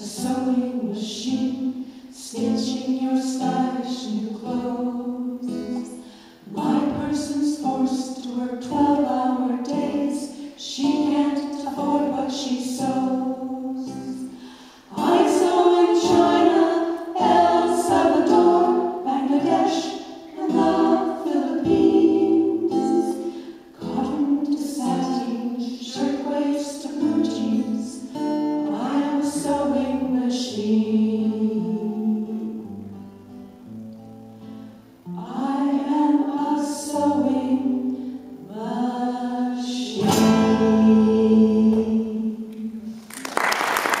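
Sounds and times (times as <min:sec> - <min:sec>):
women singing in harmony: 0:00.0 - 0:32.7, 0:35.1 - 0:43.1
acoustic guitar: 0:00.0 - 0:44.0.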